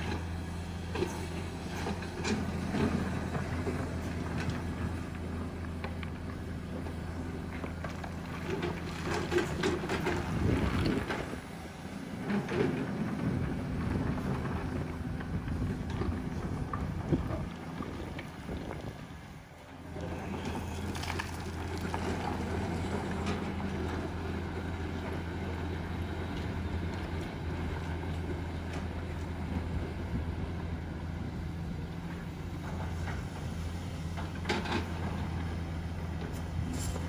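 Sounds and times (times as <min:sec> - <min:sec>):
diesel engine humming: 0:00.0 - 0:37.0.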